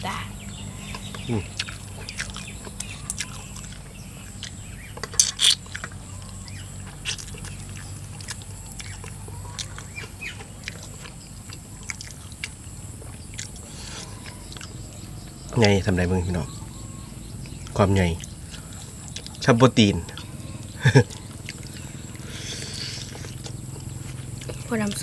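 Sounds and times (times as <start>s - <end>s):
people chewing: 0.0s - 16.6s, 17.3s - 25.0s.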